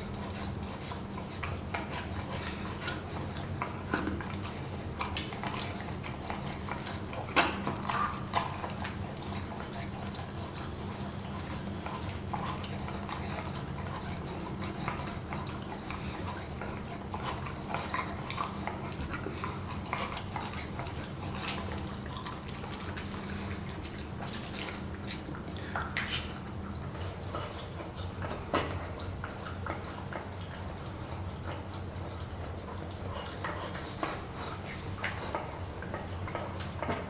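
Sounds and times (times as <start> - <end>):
puppy licking and chewing: 0.0 - 37.0.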